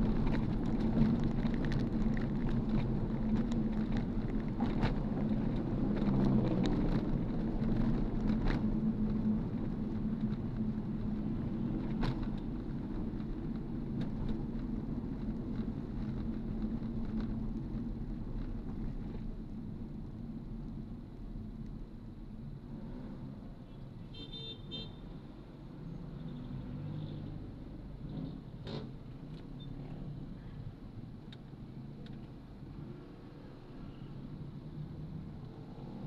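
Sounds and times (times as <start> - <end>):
vehicle engine hum: 0.0 - 24.0, 25.1 - 36.0
road noise: 0.0 - 36.0.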